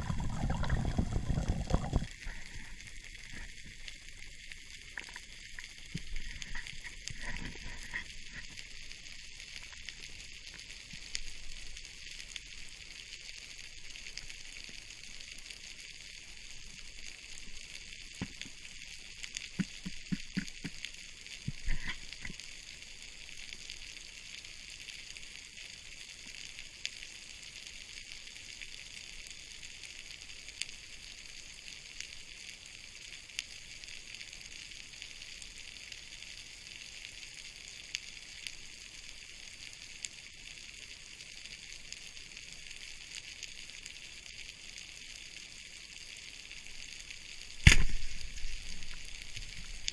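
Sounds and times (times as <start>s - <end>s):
underwater crackling hiss: 0.0s - 49.9s.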